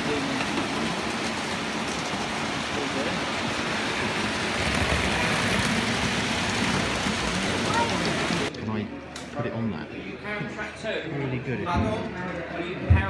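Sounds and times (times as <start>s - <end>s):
noisy hubbub: 0.0s - 13.0s.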